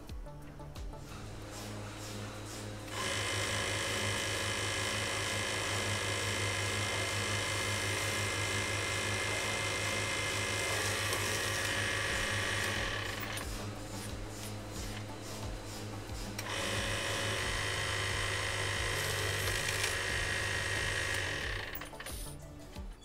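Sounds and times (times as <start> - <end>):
motor low hum: 0.8 - 22.4
lathe cutting whine: 1.5 - 22.2.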